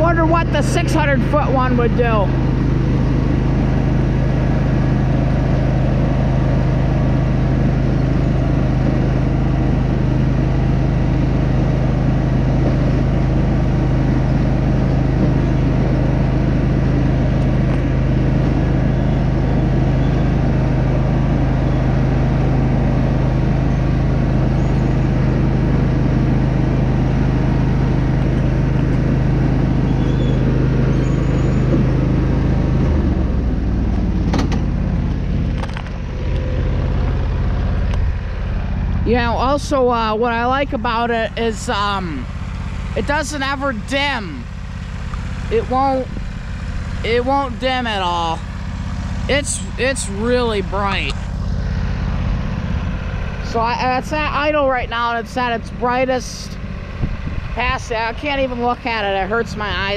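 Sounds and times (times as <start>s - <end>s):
lawn mower engine droning: 0.0s - 59.9s.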